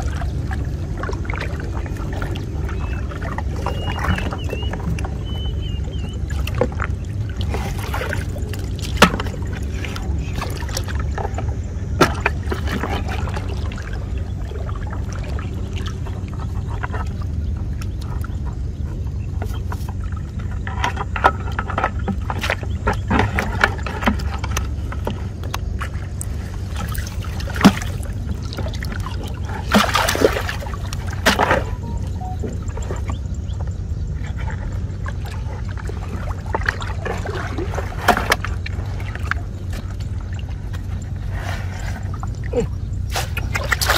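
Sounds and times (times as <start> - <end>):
steady low rumble: 0.0 - 43.9
water splashing and sloshing: 0.0 - 43.9.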